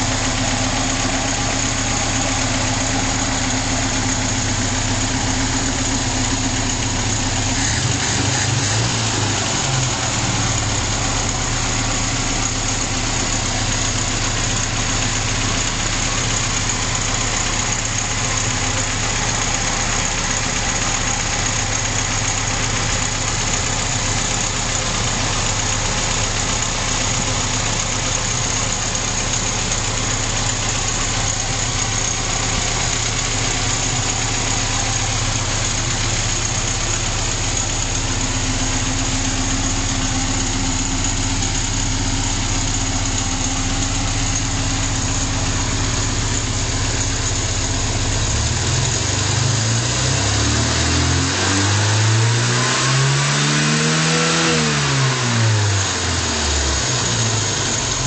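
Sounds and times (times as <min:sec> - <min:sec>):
petrol engine idling: 0:00.0 - 0:49.5.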